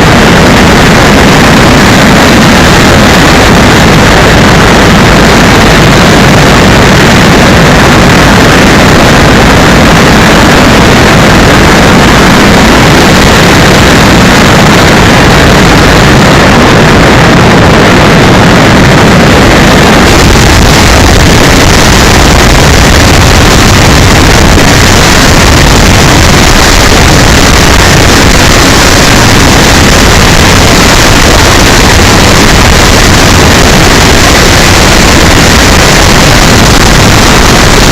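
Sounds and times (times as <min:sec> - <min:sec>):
wind rush: 0:00.0 - 0:37.9.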